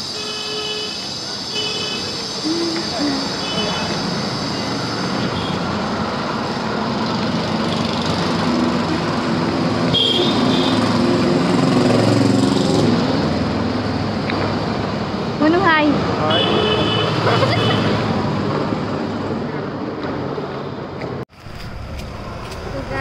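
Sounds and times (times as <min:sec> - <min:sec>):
traffic engines running: 0:00.0 - 0:23.0.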